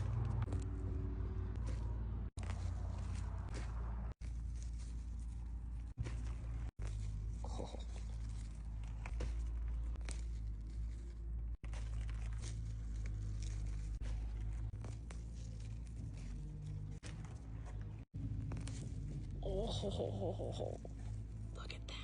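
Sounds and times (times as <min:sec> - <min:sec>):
roots tearing from soil: 0:00.0 - 0:21.5
leaves rustling: 0:00.0 - 0:21.7
small crackles: 0:00.0 - 0:22.0.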